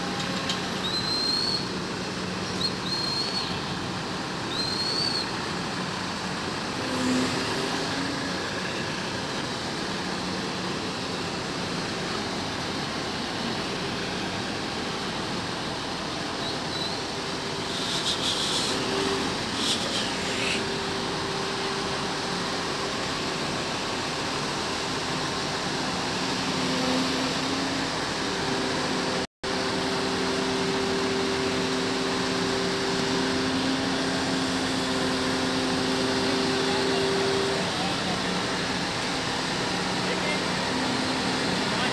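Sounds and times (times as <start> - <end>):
diesel engines running: 0.0 - 41.9.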